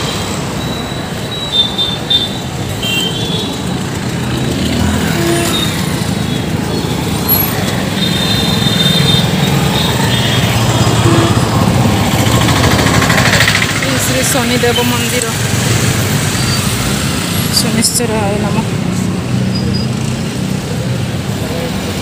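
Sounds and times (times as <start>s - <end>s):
street traffic din: 0.0s - 22.0s
motorcycles and scooters passing: 2.0s - 22.0s.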